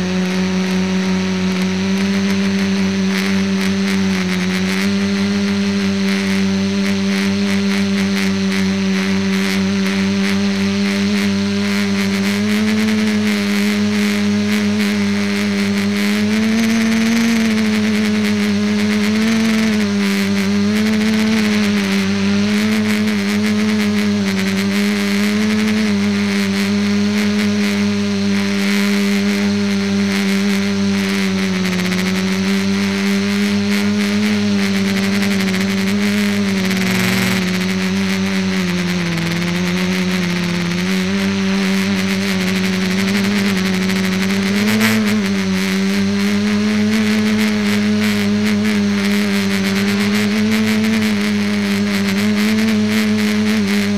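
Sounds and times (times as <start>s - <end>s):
drone propellers buzzing: 0.0s - 53.9s.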